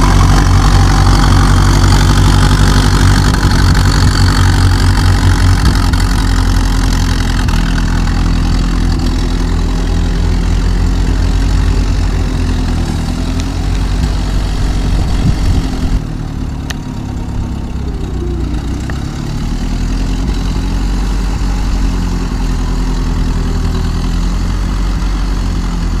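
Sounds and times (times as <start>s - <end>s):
old car engine idling: 0.0s - 26.0s.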